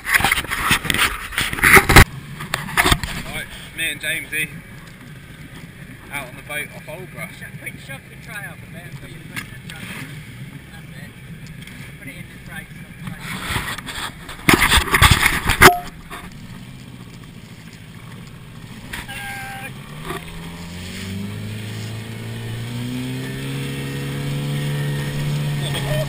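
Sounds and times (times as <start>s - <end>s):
outboard motor speeding up: 0.0s - 26.0s.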